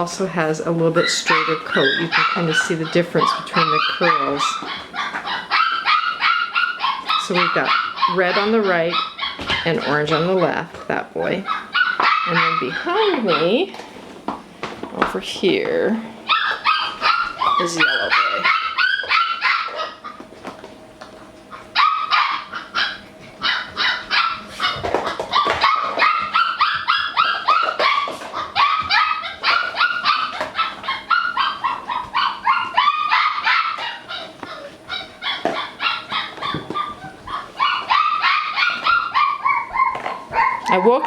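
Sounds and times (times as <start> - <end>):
puppies yipping and barking: 0.0 - 13.7, 16.2 - 41.0.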